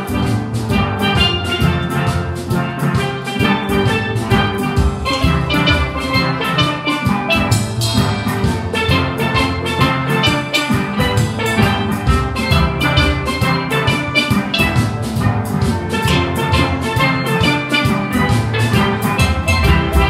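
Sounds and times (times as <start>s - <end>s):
steel band playing: 0.0s - 20.0s.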